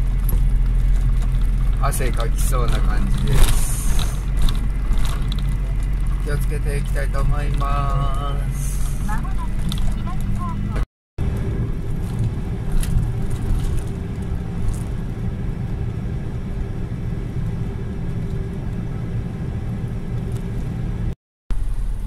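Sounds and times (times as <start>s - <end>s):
truck engine and road noise: 0.0s - 22.0s.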